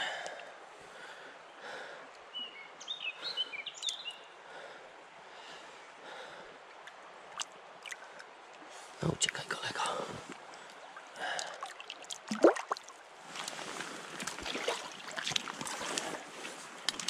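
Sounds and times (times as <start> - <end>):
faint river water: 0.0 - 17.0.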